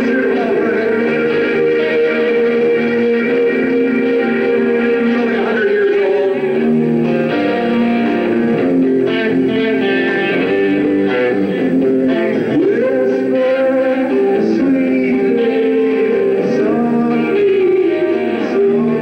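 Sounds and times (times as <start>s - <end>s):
electric guitars: 0.0s - 19.0s
rock band playing: 0.0s - 19.0s.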